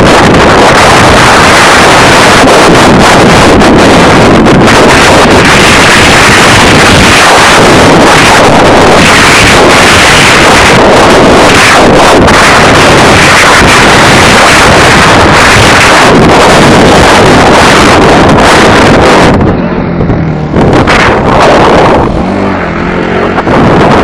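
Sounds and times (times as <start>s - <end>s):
atv engine running: 0.0s - 24.0s
wind blasting microphone: 0.0s - 24.0s.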